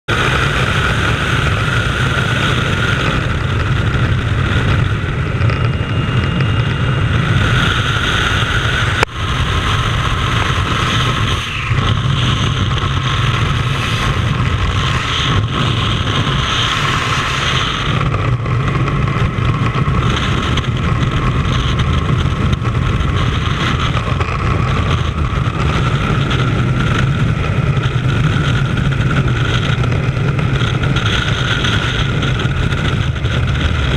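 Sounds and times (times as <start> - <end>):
freefall wind rushing: 0.1 - 33.9.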